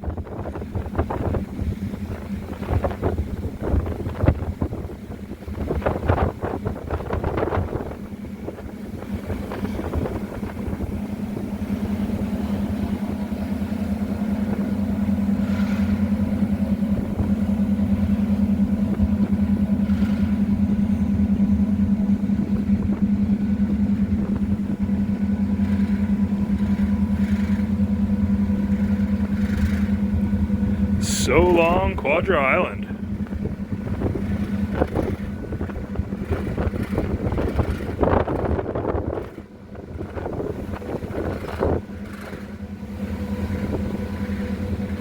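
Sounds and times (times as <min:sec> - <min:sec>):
ferry engines droning: 0:00.0 - 0:45.0.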